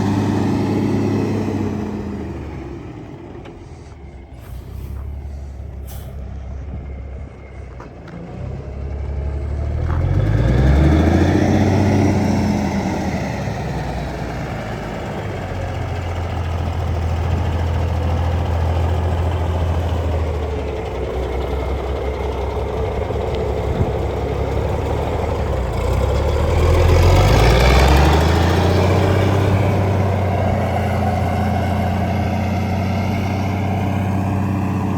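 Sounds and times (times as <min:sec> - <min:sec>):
diesel truck engine revving: 0:00.0 - 0:34.9.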